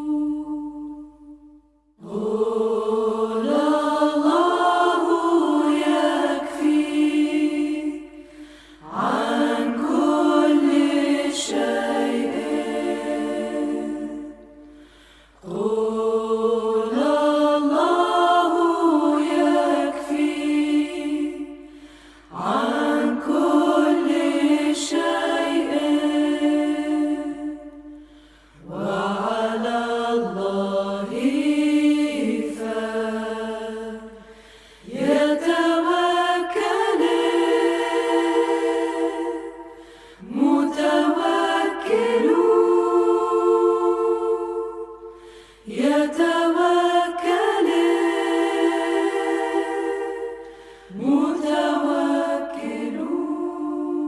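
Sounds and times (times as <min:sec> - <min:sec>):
slow chanted singing: 0:00.0 - 0:54.0.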